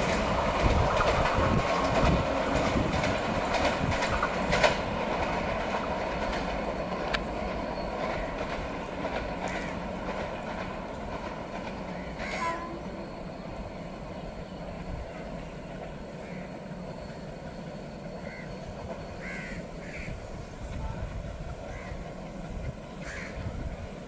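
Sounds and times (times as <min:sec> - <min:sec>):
diesel locomotive engines running: 0:00.0 - 0:24.0
passenger train running on track: 0:00.0 - 0:24.0.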